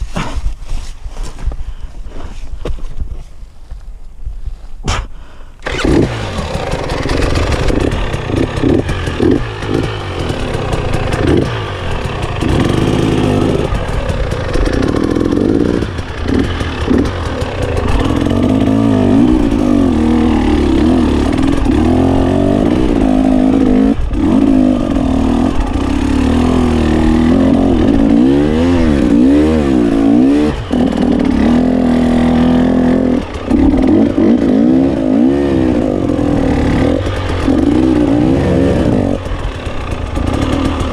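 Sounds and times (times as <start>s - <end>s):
motorcycle engine revving: 5.6s - 40.9s.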